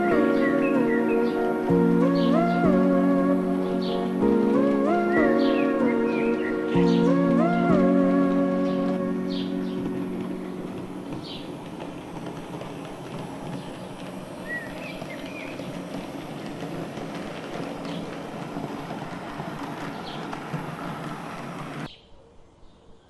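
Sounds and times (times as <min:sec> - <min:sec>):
model train rattling on track: 0:00.0 - 0:21.9.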